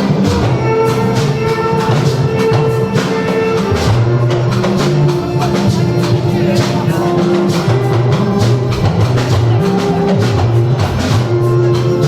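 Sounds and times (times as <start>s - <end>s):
loud band music: 0.0s - 12.0s
steady drum beat: 0.0s - 12.0s.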